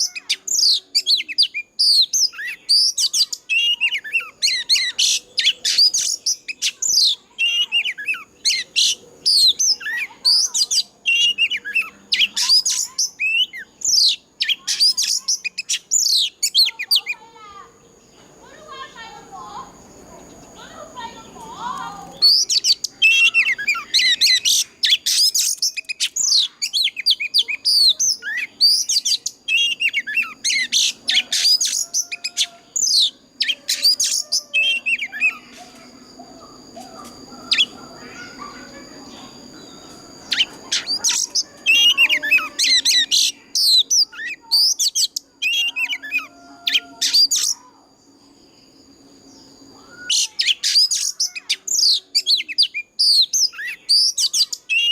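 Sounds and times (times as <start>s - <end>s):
bird singing whistled notes: 0.0s - 17.2s, 21.2s - 47.7s, 48.3s - 54.9s.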